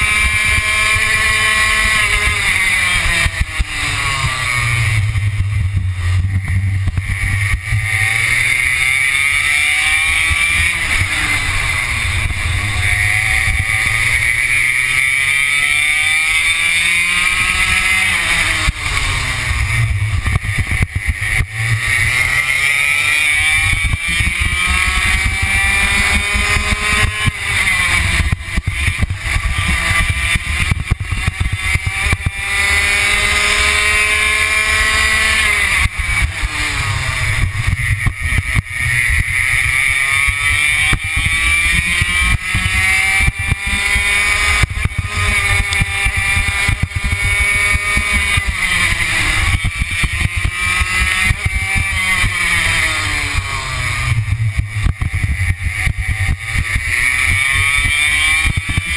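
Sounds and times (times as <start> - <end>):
kart engine revving: 0.0 - 58.9.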